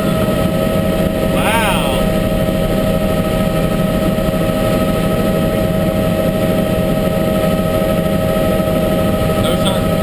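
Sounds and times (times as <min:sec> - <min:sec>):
constant whine: 0:00.0 - 0:10.0
helicopter engine and rotor drone: 0:00.0 - 0:10.0.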